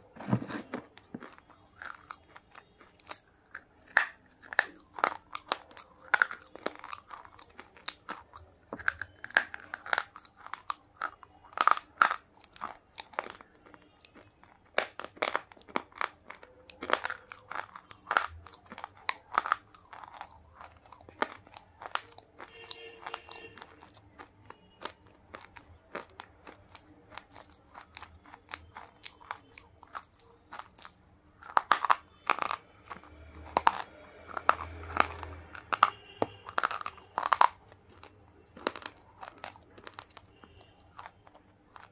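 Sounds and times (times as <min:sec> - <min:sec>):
crunching and chewing: 0:00.0 - 0:41.9.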